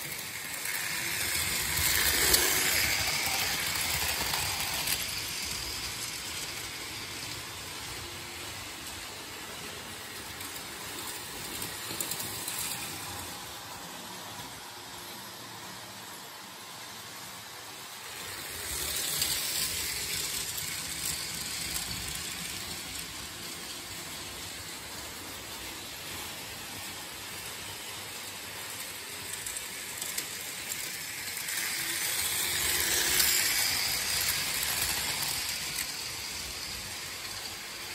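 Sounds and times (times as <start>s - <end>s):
model train rattling and whirring: 0.0s - 37.9s.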